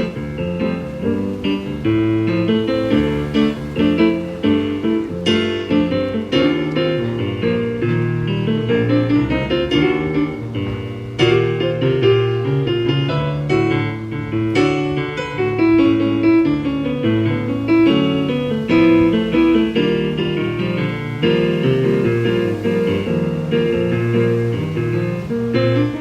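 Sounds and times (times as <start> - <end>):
keyboard piano playing chords: 0.0 - 26.0.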